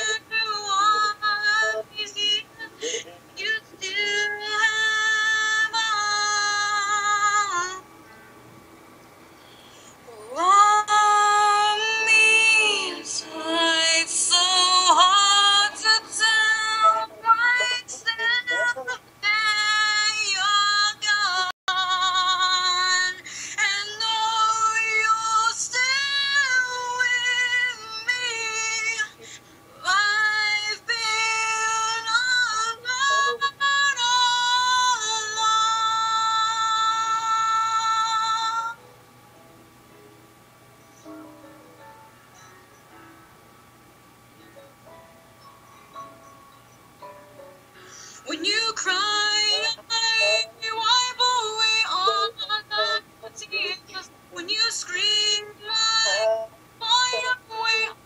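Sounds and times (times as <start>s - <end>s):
high wordless singing with vibrato: 0.0s - 7.9s, 10.0s - 38.8s, 48.0s - 58.0s.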